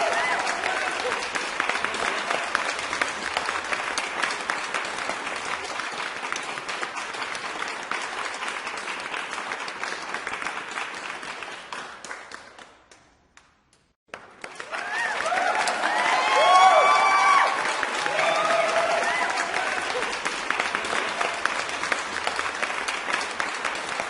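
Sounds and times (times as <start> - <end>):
crowd clapping: 0.0 - 24.0.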